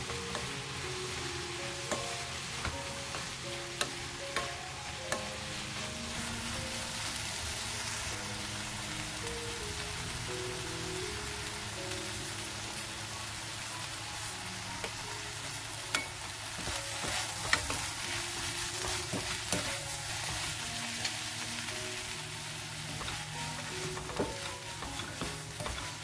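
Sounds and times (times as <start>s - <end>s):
vegetables sizzling in a frying pan: 0.0s - 26.0s.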